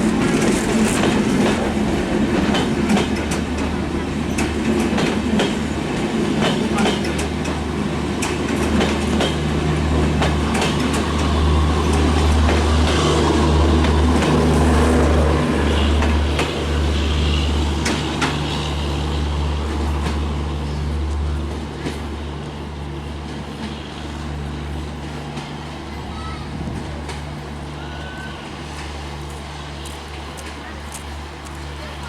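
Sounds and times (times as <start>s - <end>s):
train wheels clicking over rail joints: 0.0s - 27.8s.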